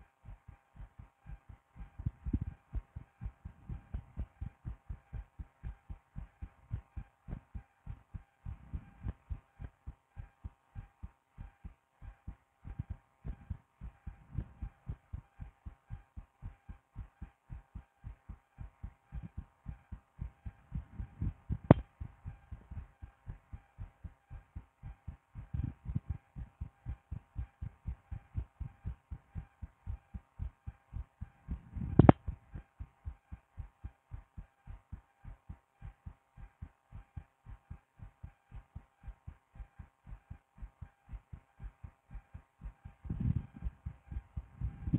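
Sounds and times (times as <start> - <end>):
faint steady hum: 0.0 - 44.9
heartbeat thumps through stethoscope: 0.0 - 44.9.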